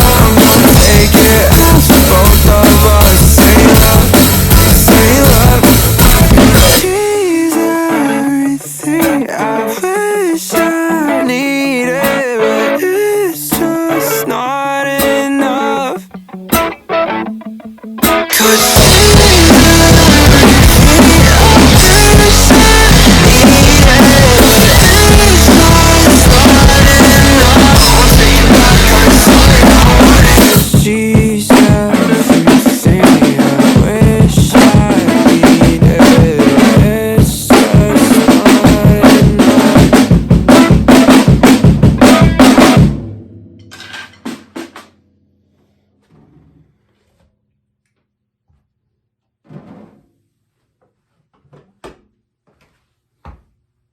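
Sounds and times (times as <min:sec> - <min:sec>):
drum kit playing: 0:00.0 - 0:14.3, 0:15.0 - 0:45.8
instrumental rock music: 0:00.0 - 0:45.2.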